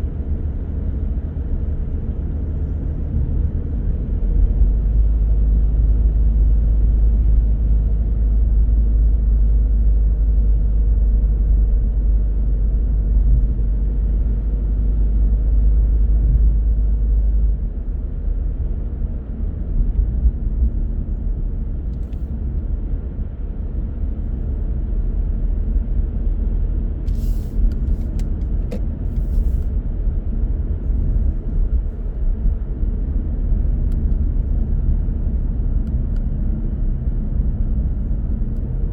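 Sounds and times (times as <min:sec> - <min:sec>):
car tyres and engine rumbling: 0:00.0 - 0:38.9.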